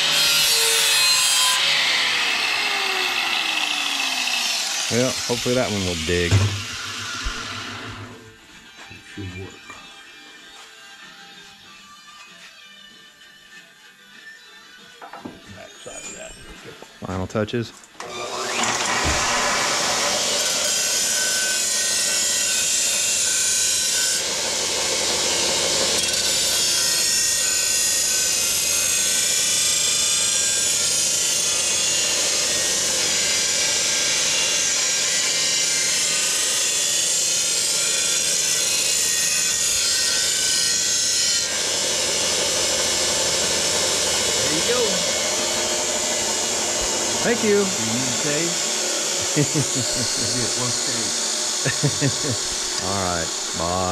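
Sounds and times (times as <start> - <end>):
grinder machine hum: 0.0 - 10.8, 18.0 - 53.9
steel grinding on belt grinder: 0.0 - 17.2, 18.0 - 53.9.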